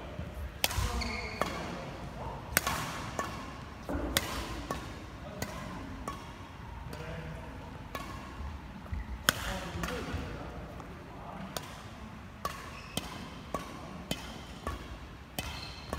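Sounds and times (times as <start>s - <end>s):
rackets hitting shuttlecock: 0.5s - 7.2s, 7.8s - 15.9s.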